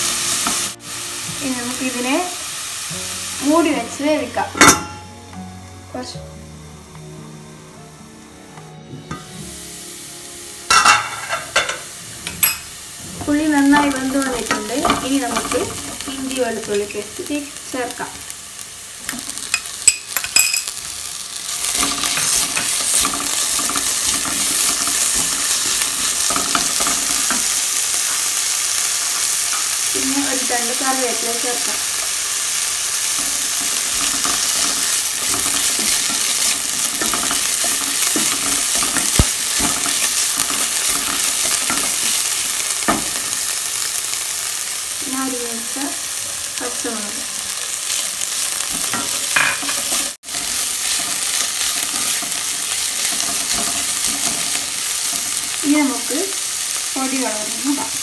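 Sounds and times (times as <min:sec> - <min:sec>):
onions sizzling in a pan: 0:00.0 - 0:58.0.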